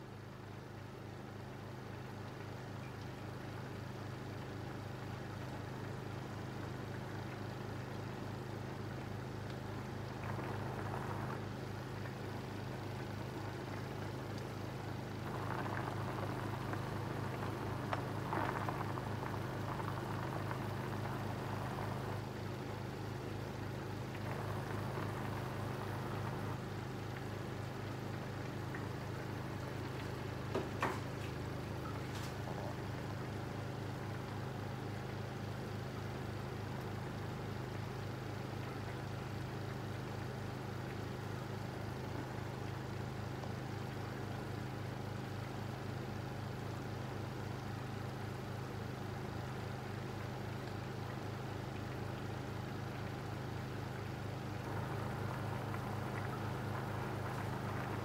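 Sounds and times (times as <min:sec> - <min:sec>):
sauce boiling in a pot: 0:00.0 - 0:58.0
steady low hum: 0:00.0 - 0:58.0.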